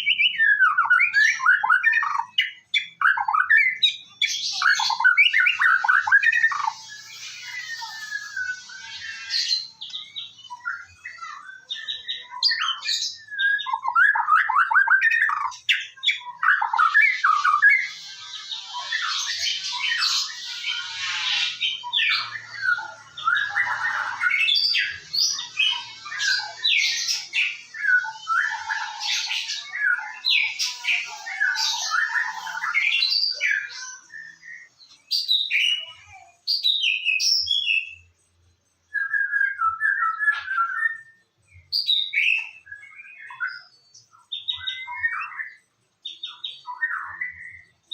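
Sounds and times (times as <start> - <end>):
songbird singing whistles and trills: 0.0 - 47.9.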